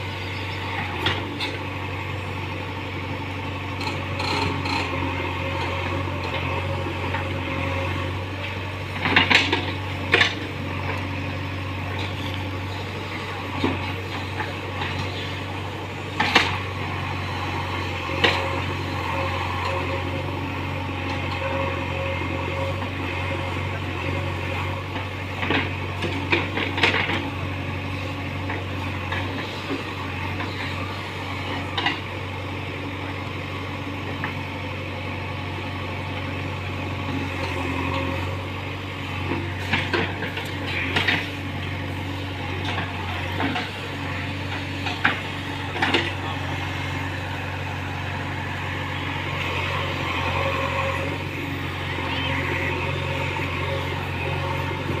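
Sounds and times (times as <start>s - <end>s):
backhoe diesel engine running: 0.0s - 55.0s.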